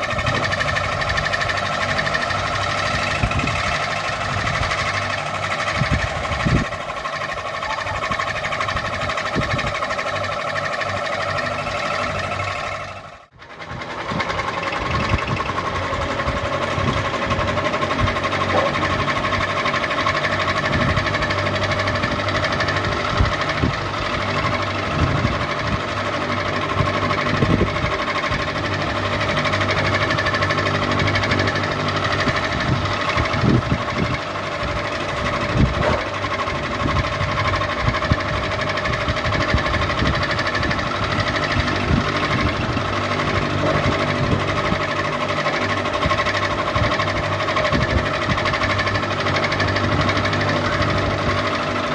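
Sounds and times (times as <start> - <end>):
ceiling fan motor hum: 0.0 - 51.9
mechanical rattle and knocks: 0.0 - 51.9.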